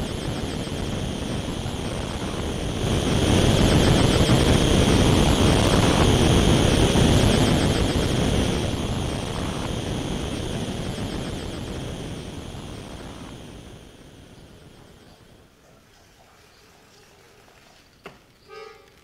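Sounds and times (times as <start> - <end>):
dense rumbling noise drone: 0.0 - 15.6.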